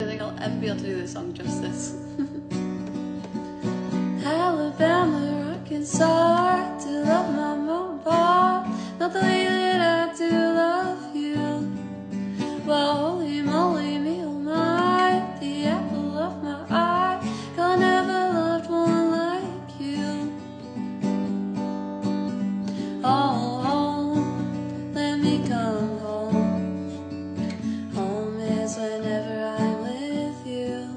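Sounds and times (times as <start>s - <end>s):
woman singing: 0.0s - 2.6s, 4.2s - 20.8s, 22.7s - 30.9s
acoustic guitar: 0.0s - 30.9s.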